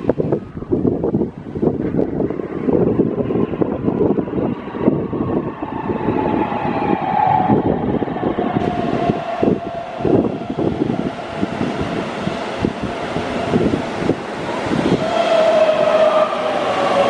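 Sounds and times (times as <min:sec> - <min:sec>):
wind buffeting microphone: 0:00.0 - 0:17.0
electric train motor whine: 0:02.3 - 0:17.0.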